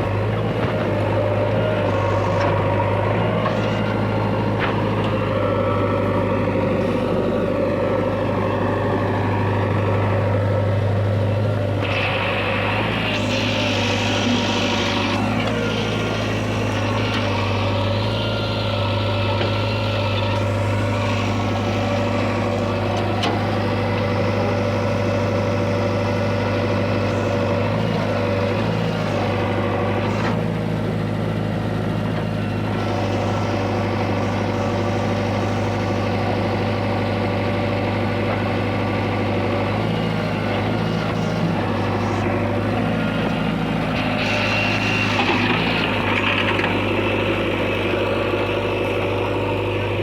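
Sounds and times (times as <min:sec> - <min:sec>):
heavy diesel engine running: 0:00.0 - 0:50.0.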